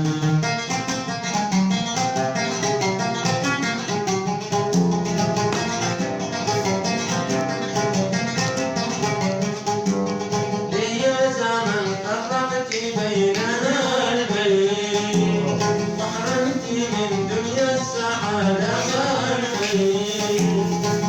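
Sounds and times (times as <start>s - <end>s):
plucked string instrument: 0.0s - 21.0s.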